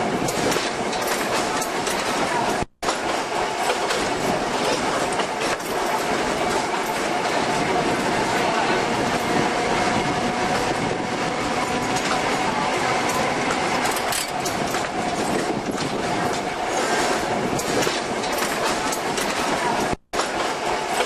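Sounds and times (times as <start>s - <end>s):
electric tram whine: 0.0s - 21.0s
wheels clicking over rail joints: 0.0s - 21.0s.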